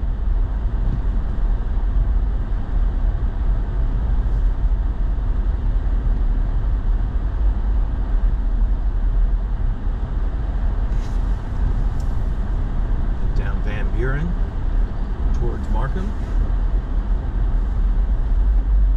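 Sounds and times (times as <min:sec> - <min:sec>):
engine and tyre rumble: 0:00.0 - 0:18.9.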